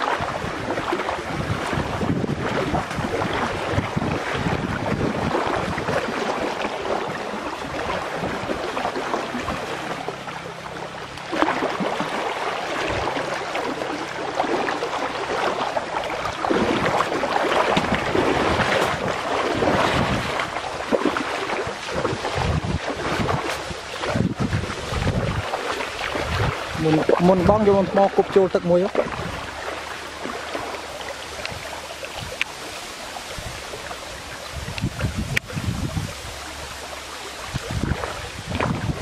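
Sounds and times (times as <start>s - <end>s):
stream water rushing: 0.0s - 39.0s
wind on microphone: 0.0s - 39.0s.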